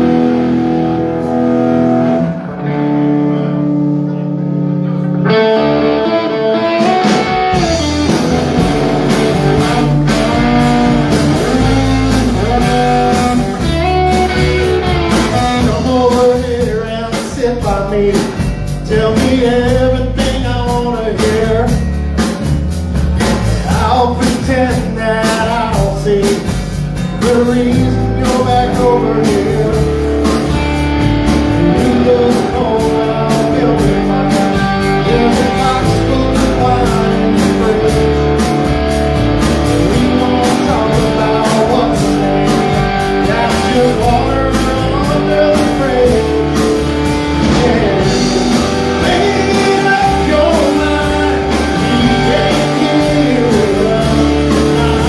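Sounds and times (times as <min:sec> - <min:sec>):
electric guitar: 0:00.0 - 0:55.0
live country rock band: 0:00.0 - 0:55.0.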